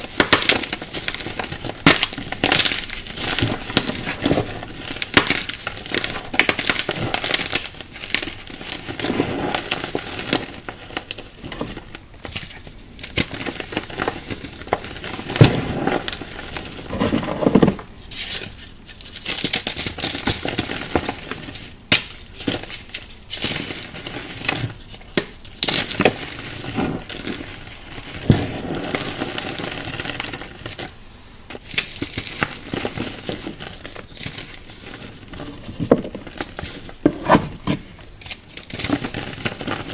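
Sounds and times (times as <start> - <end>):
hands crushing dry chunks: 0.0 - 30.9, 31.5 - 39.9.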